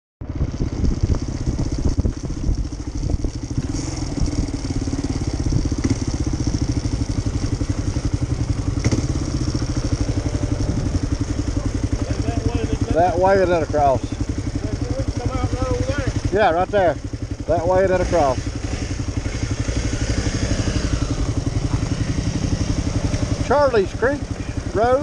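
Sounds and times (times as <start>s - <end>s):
vehicle engine running: 0.2s - 25.0s.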